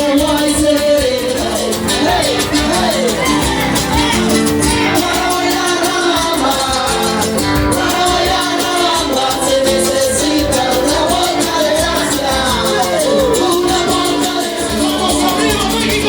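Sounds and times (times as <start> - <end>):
guitar: 0.0 - 16.0
percussive beat: 0.0 - 16.0
person singing: 0.0 - 16.0.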